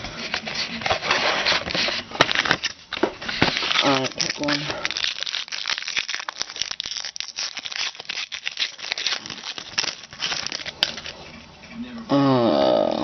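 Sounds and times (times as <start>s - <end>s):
foil wrapper crinkling: 0.8s - 11.3s.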